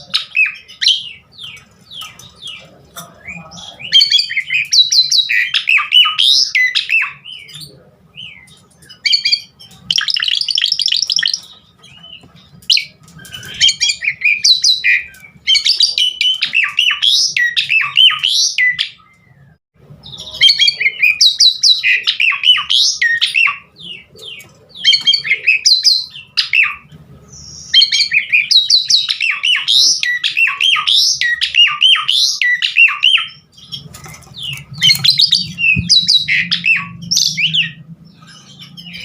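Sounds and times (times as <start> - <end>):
starling chattering and whistling: 0.0 - 19.1, 20.0 - 39.0.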